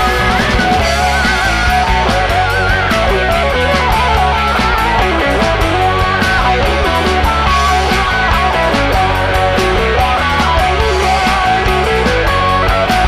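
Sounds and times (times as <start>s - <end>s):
bass and drums: 0.0s - 13.0s
electric guitar lead: 0.0s - 13.0s.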